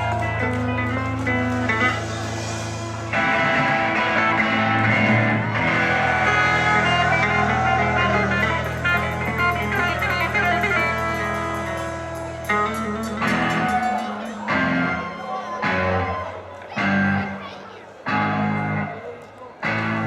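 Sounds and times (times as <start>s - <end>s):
live band playing: 0.0s - 17.4s
strummed guitar: 0.0s - 20.0s.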